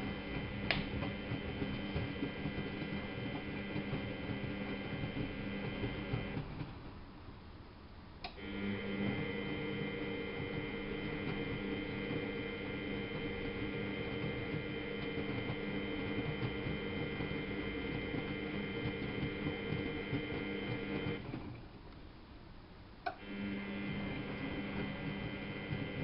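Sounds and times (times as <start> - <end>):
washing machine motor humming: 0.0 - 7.1, 8.2 - 21.7, 23.1 - 26.0.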